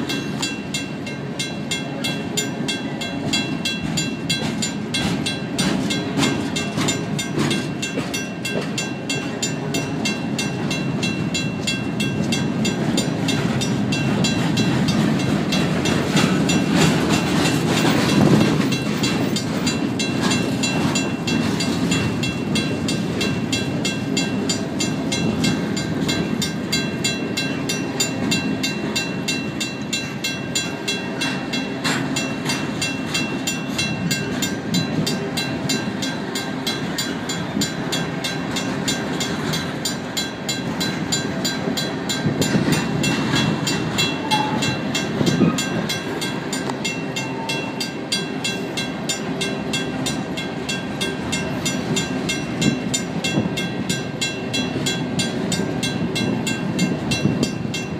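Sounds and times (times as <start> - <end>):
crossing bell ringing rapidly: 0.0 - 57.9
freight cars rumbling and rattling: 0.0 - 57.9.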